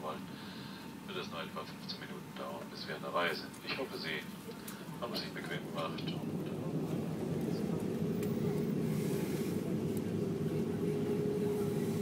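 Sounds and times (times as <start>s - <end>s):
aircraft cabin rumble and hum: 1.0s - 12.0s.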